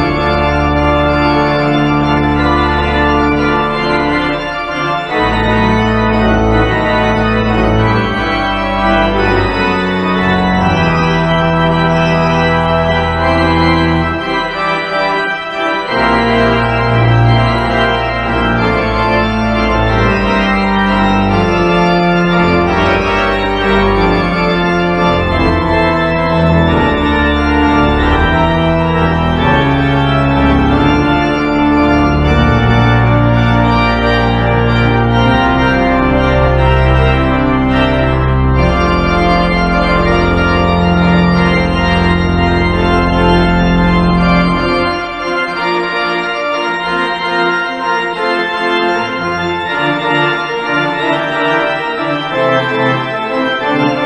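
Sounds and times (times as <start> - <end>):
deep organ pedal bass: 0.0 - 54.0
organ playing held chords: 0.0 - 54.0.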